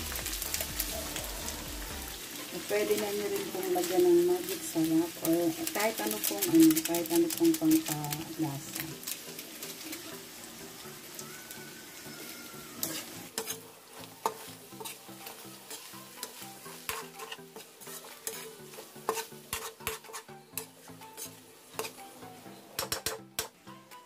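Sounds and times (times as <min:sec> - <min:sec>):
light sizzle of frying: 0:00.0 - 0:24.0
metal spatula scraping a wok: 0:00.4 - 0:10.4, 0:12.8 - 0:24.0.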